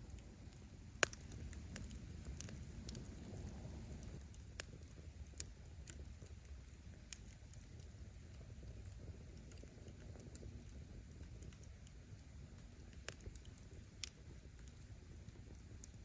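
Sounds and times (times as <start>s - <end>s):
wood fire burning: 0.0s - 16.0s.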